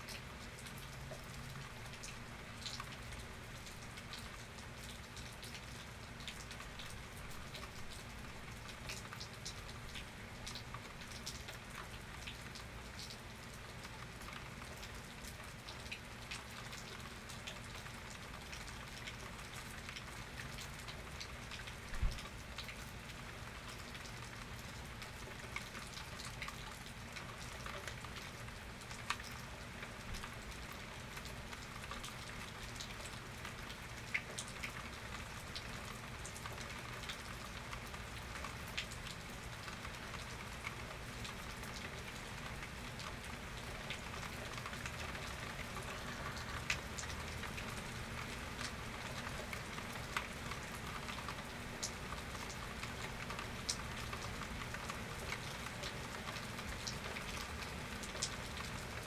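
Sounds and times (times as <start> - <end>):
rain pattering: 0.0 - 59.0
sharp ticks of raindrops: 0.0 - 59.0.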